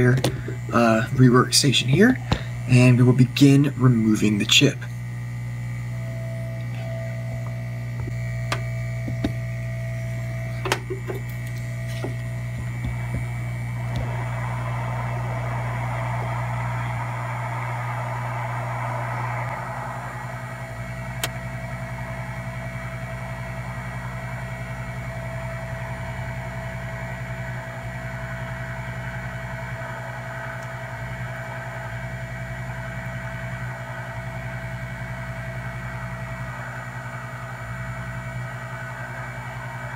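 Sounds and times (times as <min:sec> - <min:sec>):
hot air blower whirring: 0:00.0 - 0:39.9.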